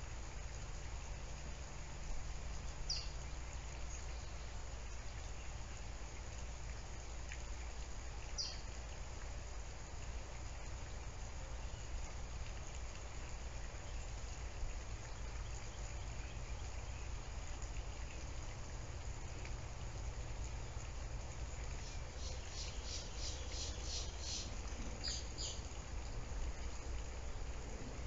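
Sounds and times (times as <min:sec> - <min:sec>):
low room hum and hiss: 0:00.0 - 0:28.0.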